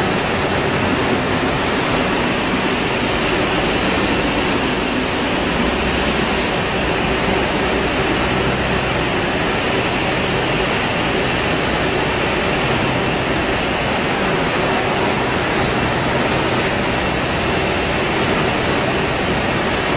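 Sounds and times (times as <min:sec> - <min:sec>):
factory production line hiss: 0:00.0 - 0:19.9.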